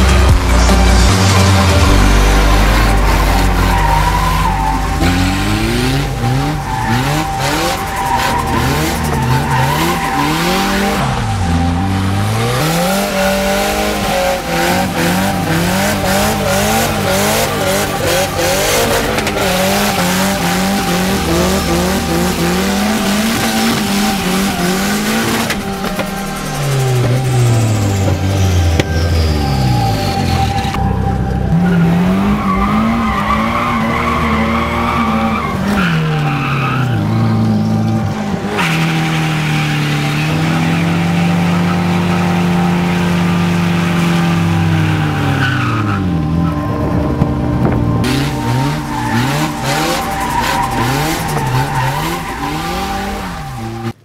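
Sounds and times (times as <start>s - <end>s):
car engine revving: 0.0s - 54.0s
tyres screeching: 0.0s - 54.0s.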